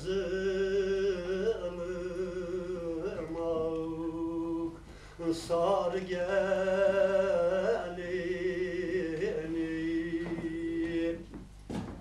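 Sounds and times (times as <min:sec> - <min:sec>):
man singing unaccompanied: 0:00.0 - 0:11.4.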